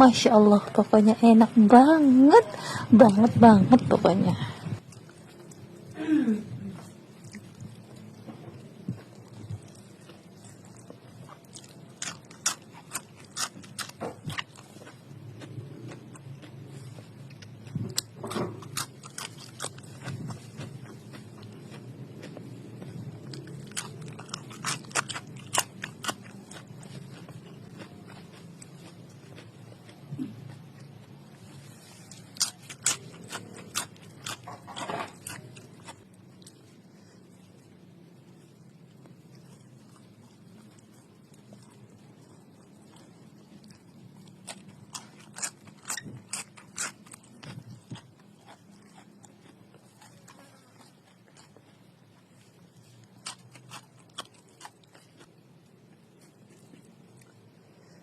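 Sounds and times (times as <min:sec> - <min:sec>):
person chewing crunchy stems: 0:00.0 - 0:58.0
steady low hum: 0:00.0 - 0:58.0.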